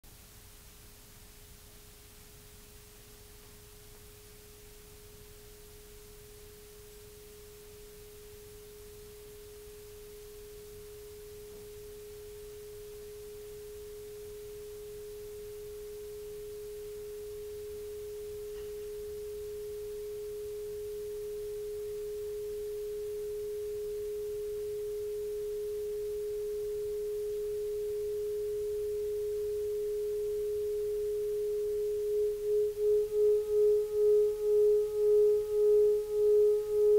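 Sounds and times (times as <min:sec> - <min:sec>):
steady electronic tone: 0:06.4 - 0:36.9.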